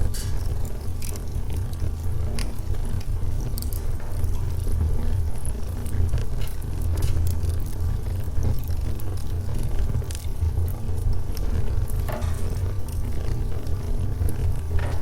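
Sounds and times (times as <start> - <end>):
flame rumbling: 0.0 - 15.0
wood crackling and popping: 0.0 - 15.0.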